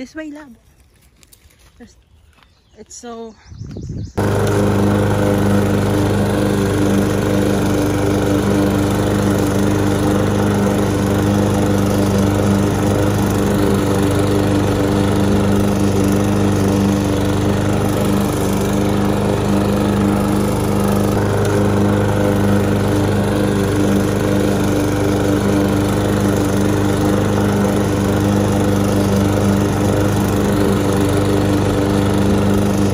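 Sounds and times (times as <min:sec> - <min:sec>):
lawn mower engine running: 0:04.2 - 0:32.9.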